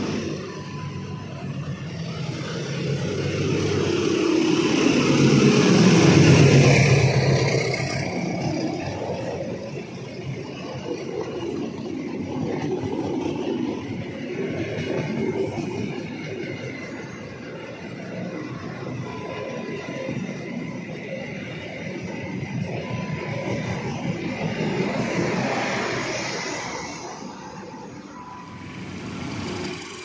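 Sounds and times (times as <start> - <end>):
train cars rolling on track: 0.0 - 30.0
train passing close by: 0.0 - 30.0.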